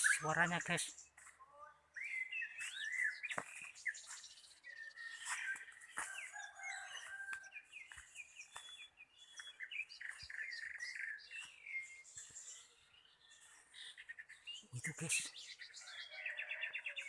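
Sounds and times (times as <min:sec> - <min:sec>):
wild birds chirping and trilling: 0:00.0 - 0:17.0.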